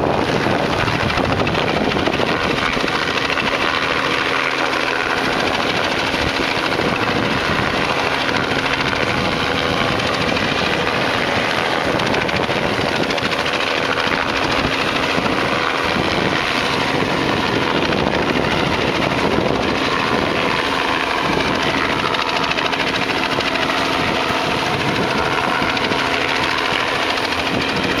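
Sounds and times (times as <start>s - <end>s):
helicopter rotor and engine: 0.0s - 28.0s.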